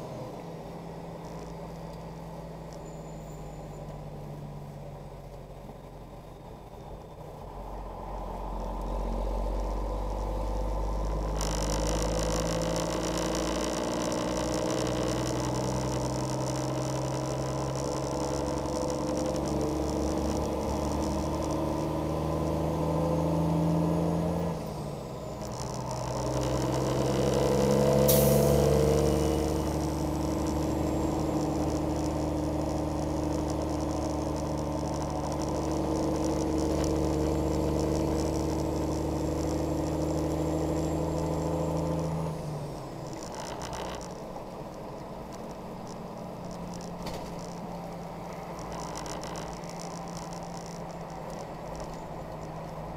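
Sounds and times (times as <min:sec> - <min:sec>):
road noise: 0:00.0 - 0:52.9
truck engine running: 0:00.0 - 0:52.9.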